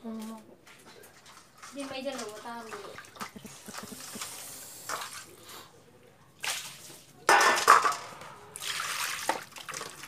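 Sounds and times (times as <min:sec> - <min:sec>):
water sloshing in steel basin: 0:00.6 - 0:05.4, 0:06.4 - 0:10.0.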